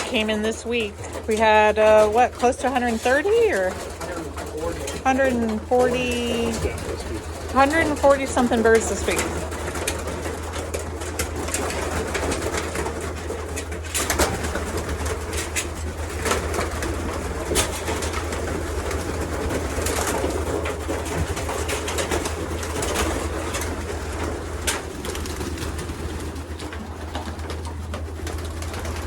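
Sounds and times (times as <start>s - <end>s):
pigeons cooing: 0.0s - 29.0s
steady low hum: 0.0s - 29.0s.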